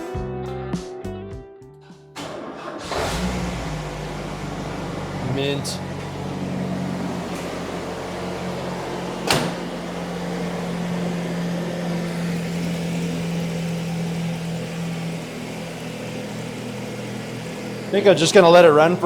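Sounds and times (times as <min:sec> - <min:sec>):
car engine idling: 0:02.2 - 0:19.0.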